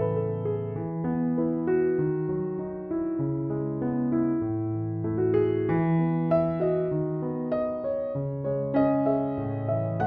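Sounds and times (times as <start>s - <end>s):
soft electric piano melody: 0.0s - 10.0s.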